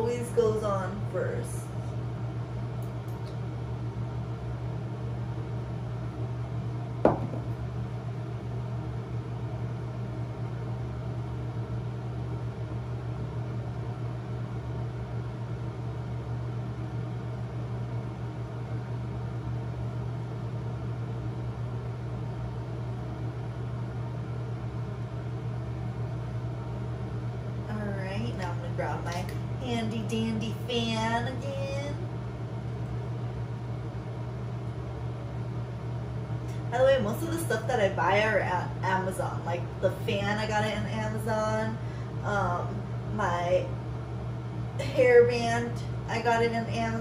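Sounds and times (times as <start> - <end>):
fan humming: 0.0 - 47.0.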